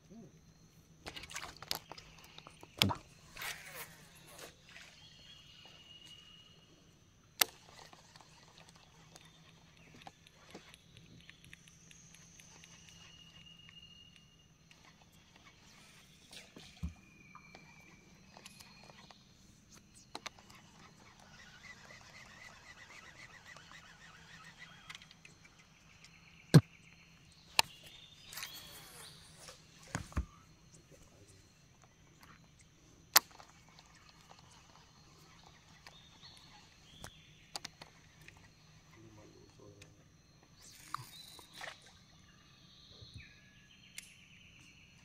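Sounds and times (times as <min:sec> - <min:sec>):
faint steady hum: 0:00.0 - 0:45.0
soft rapid chirping: 0:05.1 - 0:42.6.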